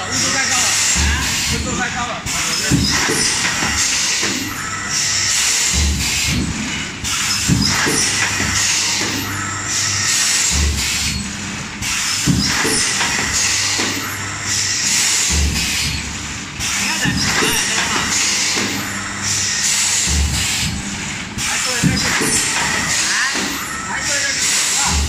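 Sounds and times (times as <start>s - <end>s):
machine air hiss: 0.1s - 25.0s.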